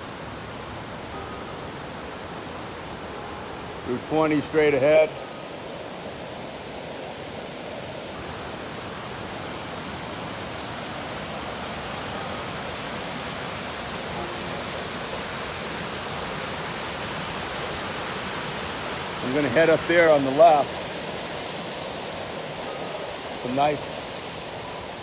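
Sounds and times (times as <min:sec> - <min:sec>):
waterfall and stream rushing: 0:00.0 - 0:25.0.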